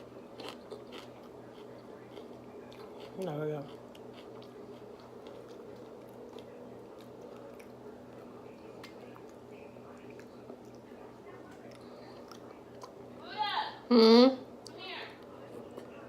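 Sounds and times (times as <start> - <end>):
chewing soft food: 0.0 - 13.2, 14.6 - 16.0
steady hum: 0.0 - 16.0.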